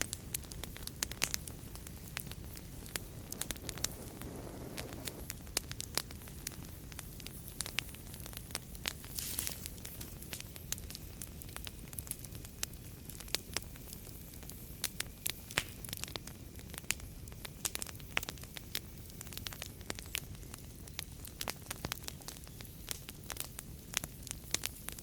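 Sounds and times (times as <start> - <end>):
low rumble of flames: 0.0 - 25.0
sharp pops and snaps: 0.0 - 25.0
wood fire crackling: 0.0 - 25.0.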